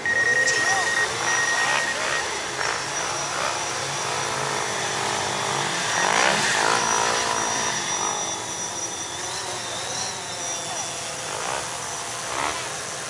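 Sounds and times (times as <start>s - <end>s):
drone motors whining: 0.0s - 13.0s
engine rising and falling: 0.0s - 13.0s.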